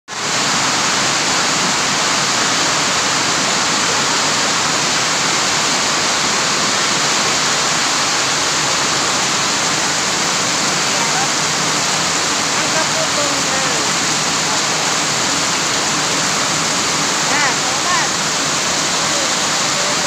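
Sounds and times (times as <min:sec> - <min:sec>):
heavy rain pouring: 0:00.1 - 0:20.0.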